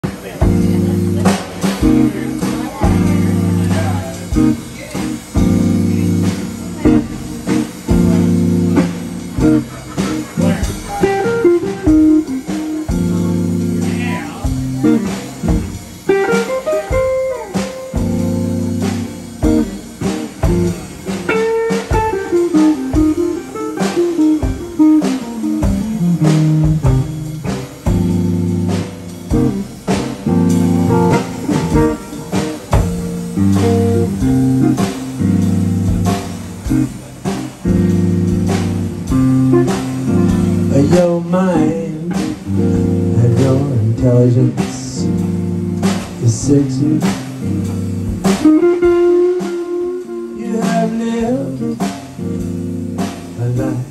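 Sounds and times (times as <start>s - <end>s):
amplified electric guitar: 0.0s - 53.9s
drum kit: 0.0s - 53.9s.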